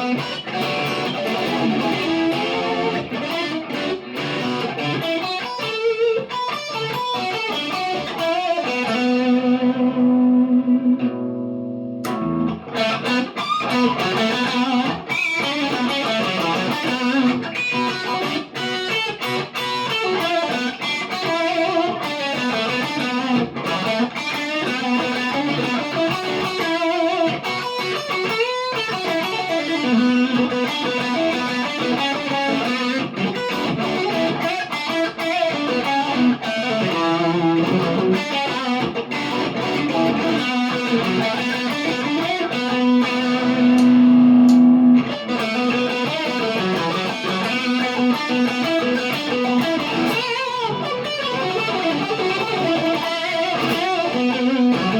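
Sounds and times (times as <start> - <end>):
electric guitar playing: 0.0 - 54.9.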